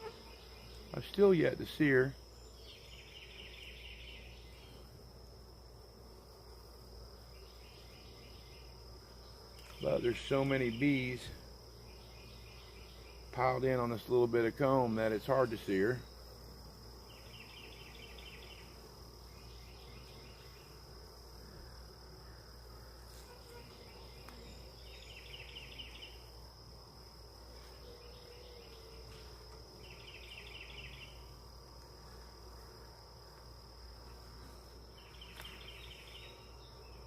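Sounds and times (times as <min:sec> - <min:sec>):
insects chirping: 0:00.0 - 0:37.0
high-pitched insect drone: 0:07.3 - 0:37.0.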